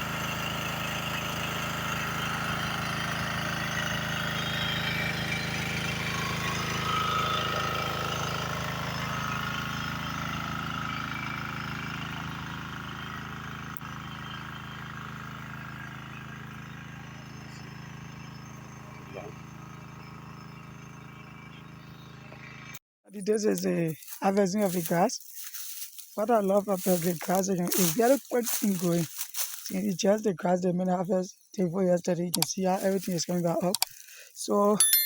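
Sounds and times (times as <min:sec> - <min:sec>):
small engine running: 0:00.0 - 0:35.0.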